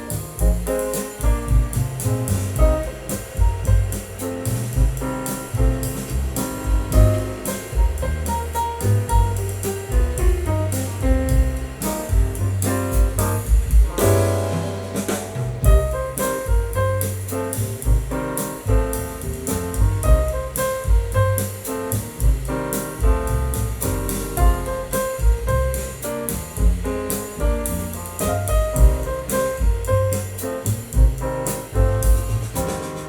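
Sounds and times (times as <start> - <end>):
piano blues with drums and bass: 0.0 - 33.0.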